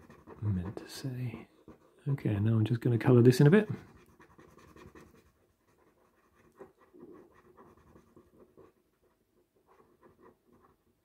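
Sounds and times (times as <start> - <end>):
pen scratching on paper: 0.0 - 2.1, 3.6 - 11.0.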